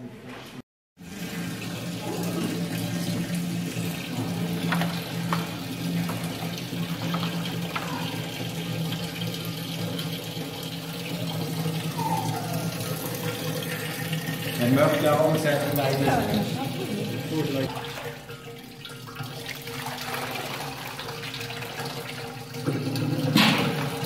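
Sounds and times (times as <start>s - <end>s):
liquid running and splashing: 1.0s - 24.0s.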